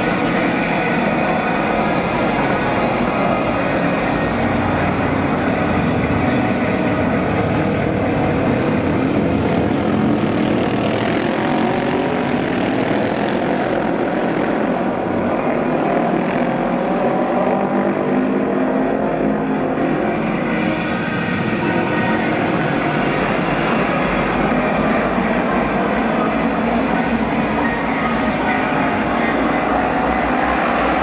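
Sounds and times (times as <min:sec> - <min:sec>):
racing motorcycle engines: 0:00.0 - 0:31.0.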